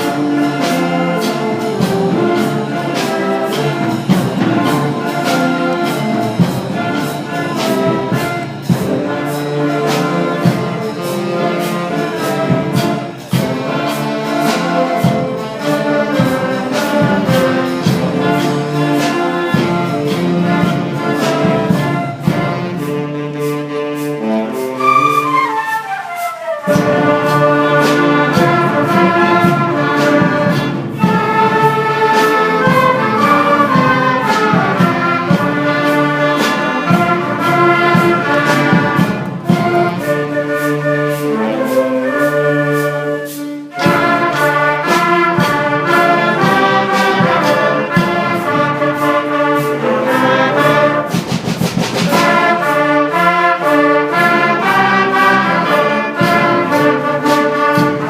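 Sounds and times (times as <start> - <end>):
orchestral music with brass: 0.0 - 58.0.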